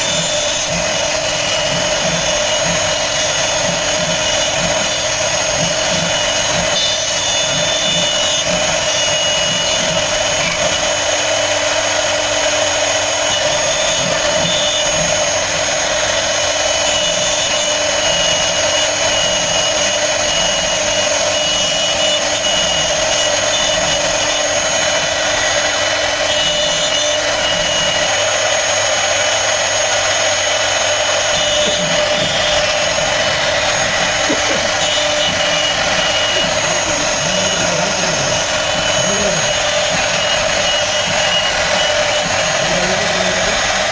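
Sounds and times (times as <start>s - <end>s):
cutting wood noise: 0.0s - 43.9s
router spindle high whine: 0.0s - 43.9s.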